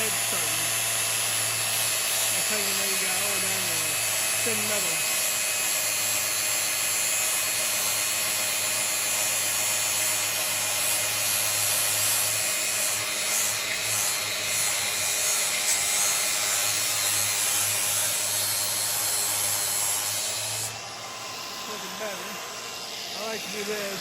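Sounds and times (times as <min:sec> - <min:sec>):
angle grinder grinding metal: 0:00.0 - 0:24.0.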